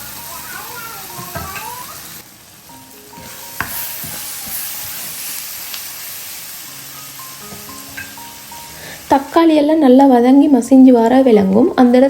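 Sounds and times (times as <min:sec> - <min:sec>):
faint background music: 0:00.0 - 0:12.0
vegetables sizzling in oil: 0:00.0 - 0:12.0.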